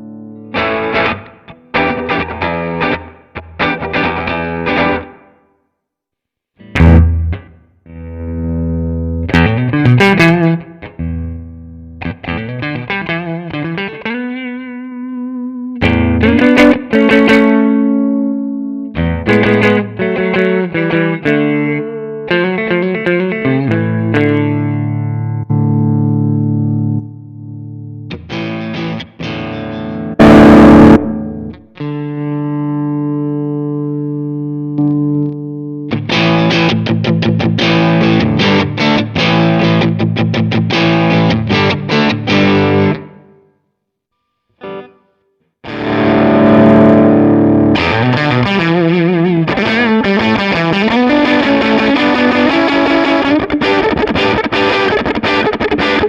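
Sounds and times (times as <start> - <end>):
overdriven electric guitar: 0.0 - 5.6, 6.6 - 43.5, 44.5 - 56.0.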